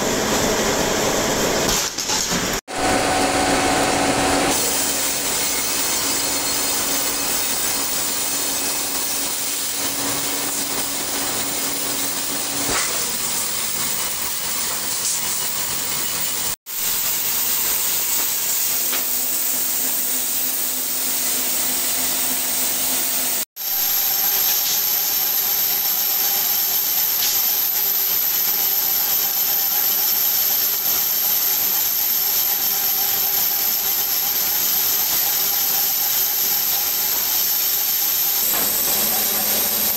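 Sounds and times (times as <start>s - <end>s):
workshop machinery hissing: 0.0s - 39.9s.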